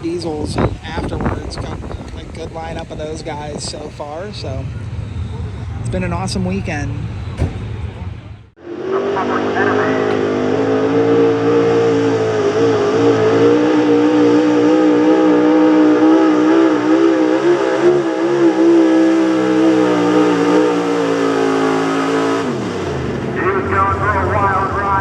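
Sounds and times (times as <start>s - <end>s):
truck engine at high revs: 0.0s - 25.0s.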